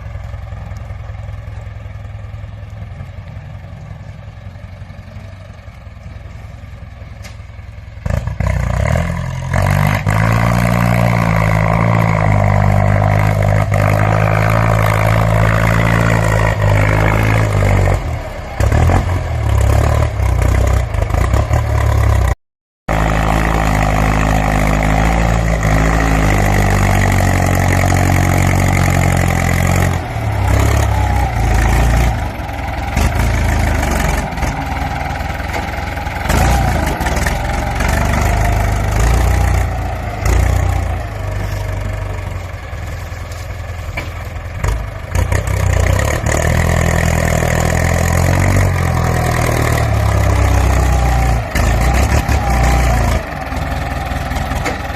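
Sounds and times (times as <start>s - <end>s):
tractor diesel engine revving: 0.0s - 54.9s.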